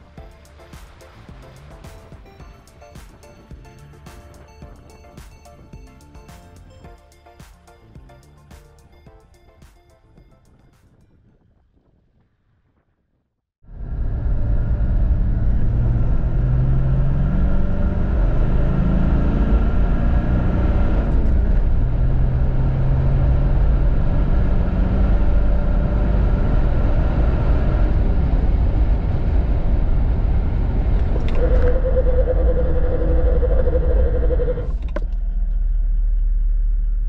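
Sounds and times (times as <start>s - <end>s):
diesel engine accelerating: 0.0s - 9.1s, 13.7s - 37.0s.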